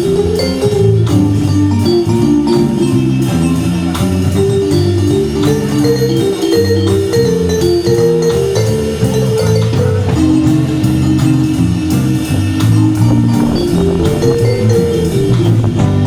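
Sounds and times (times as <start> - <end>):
live band playing swing: 0.0 - 16.0.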